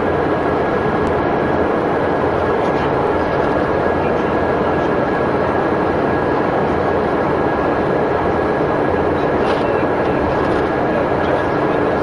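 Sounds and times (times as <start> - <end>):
coach engine and road noise: 0.0 - 12.0.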